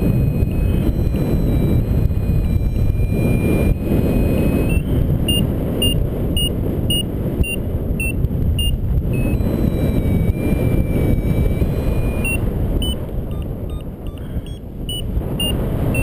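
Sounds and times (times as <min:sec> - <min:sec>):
airflow rushing over microphone: 0:00.0 - 0:16.0
variometer electronic tones: 0:00.0 - 0:16.0.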